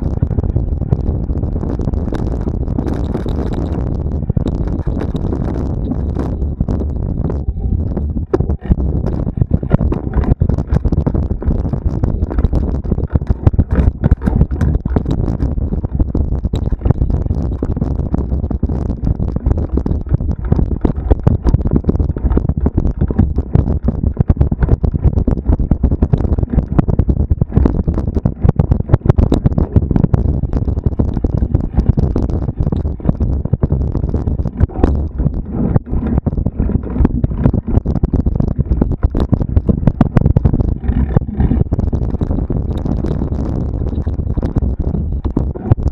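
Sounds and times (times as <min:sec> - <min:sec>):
low rumble with rattling: 0:00.0 - 0:45.9
wind buffeting microphone: 0:00.0 - 0:45.9.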